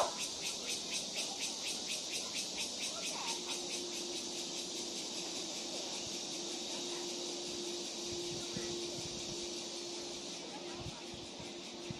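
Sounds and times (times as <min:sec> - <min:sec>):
insects chirping: 0:00.0 - 0:11.9.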